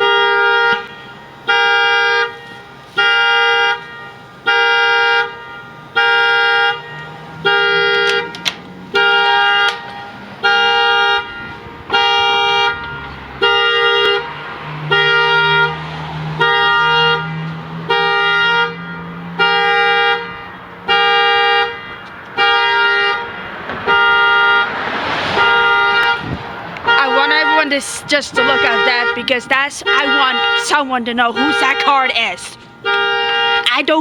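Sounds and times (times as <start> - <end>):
car horn blaring short blasts: 0.0 - 34.0.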